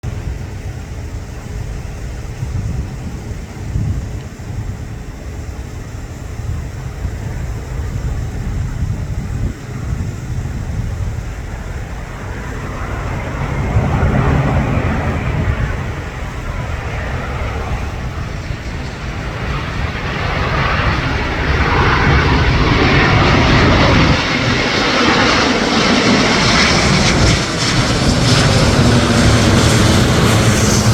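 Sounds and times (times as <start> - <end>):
jet engines roaring: 0.0 - 30.9.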